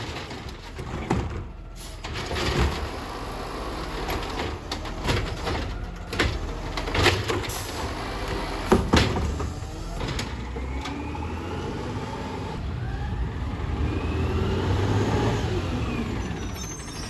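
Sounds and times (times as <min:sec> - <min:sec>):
garbage truck engine running: 0:00.0 - 0:14.2.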